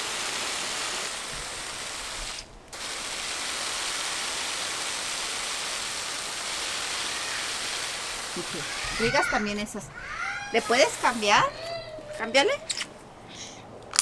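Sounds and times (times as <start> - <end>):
hiss of fine water spray: 0.0 - 12.5.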